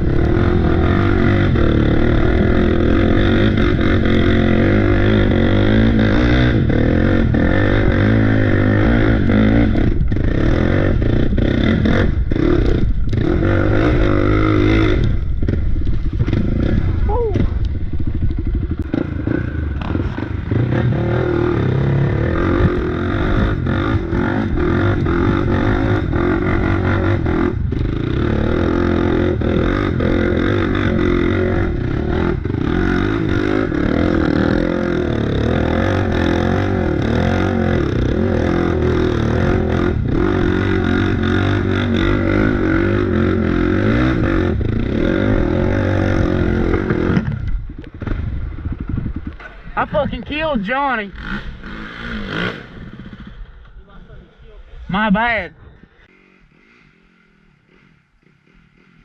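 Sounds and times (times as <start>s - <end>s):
off-road bike engine running: 0.0s - 54.4s, 55.2s - 59.0s.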